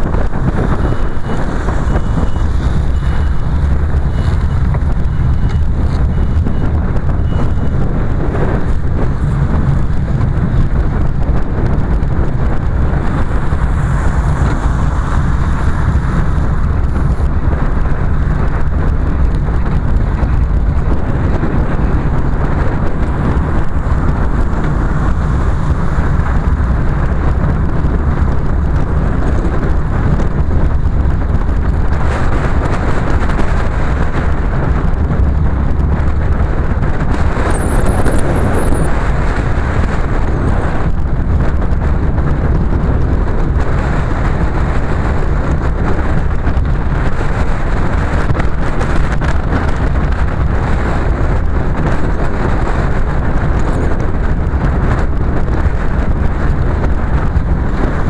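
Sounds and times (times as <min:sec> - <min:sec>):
car engine and tyre noise: 0:00.0 - 0:58.0
wind buffeting microphone: 0:00.0 - 0:58.0.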